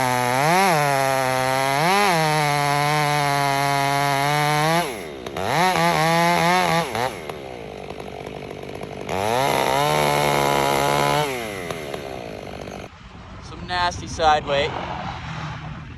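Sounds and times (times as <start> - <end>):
chainsaw cutting timber: 0.0 - 12.9.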